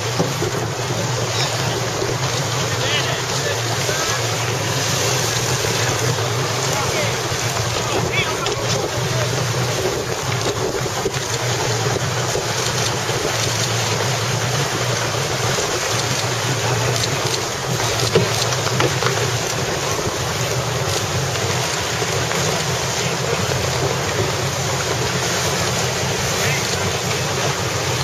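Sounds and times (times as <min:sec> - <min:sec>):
rushing water: 0:00.0 - 0:28.0
wind buffeting microphone: 0:00.0 - 0:28.0.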